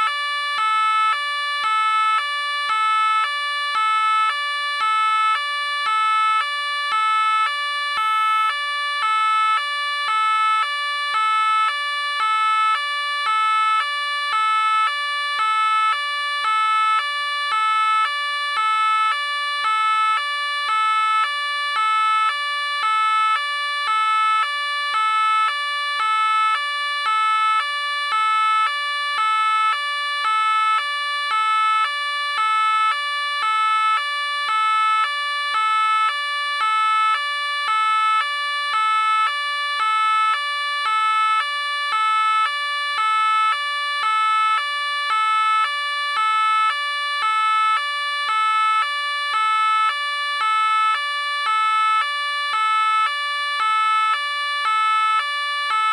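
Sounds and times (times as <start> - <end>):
police car two-tone siren: 0.0 - 55.9.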